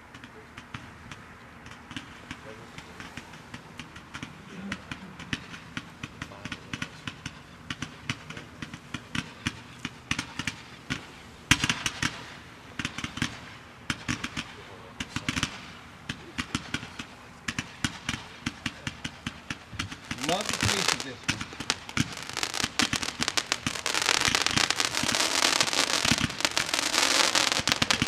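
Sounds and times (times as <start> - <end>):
fireworks cake firing sharp shots: 0.0 - 28.0.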